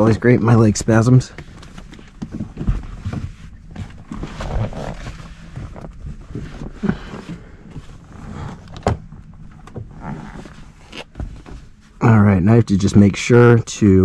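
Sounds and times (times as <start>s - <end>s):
rustles and bumps in a car seat: 0.0s - 13.6s.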